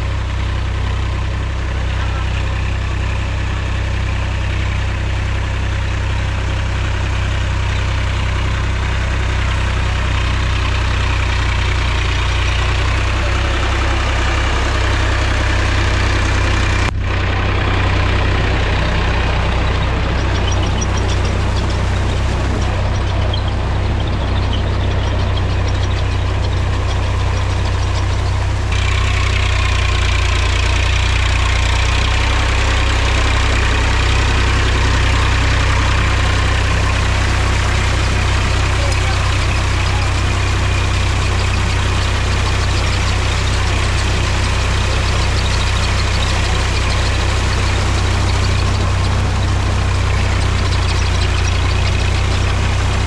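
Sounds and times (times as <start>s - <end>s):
tractor diesel engine droning: 0.0s - 53.0s.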